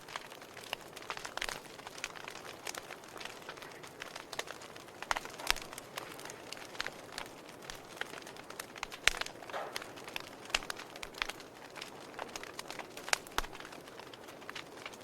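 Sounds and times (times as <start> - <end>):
logs crackling in a fireplace: 0.0 - 15.0.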